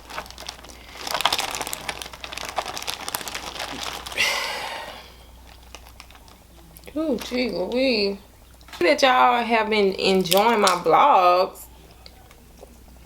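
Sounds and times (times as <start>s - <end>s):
close-miked chewing and crinkling: 0.0s - 4.2s, 5.1s - 10.9s, 11.5s - 13.0s.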